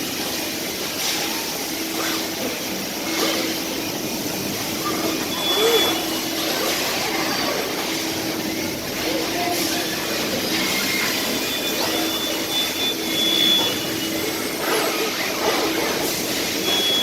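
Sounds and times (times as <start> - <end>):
factory machinery noise: 0.0 - 17.0.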